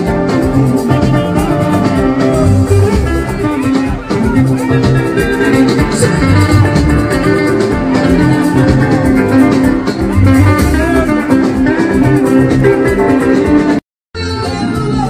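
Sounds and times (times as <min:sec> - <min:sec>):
guitar and drums music: 0:00.0 - 0:15.0
steady bass line: 0:00.0 - 0:15.0.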